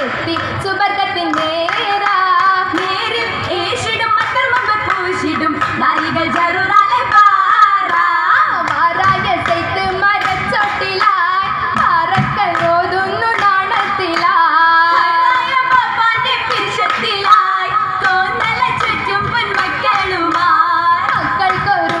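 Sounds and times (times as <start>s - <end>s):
group of voices singing: 0.0s - 22.0s
hand-claps: 0.0s - 22.0s.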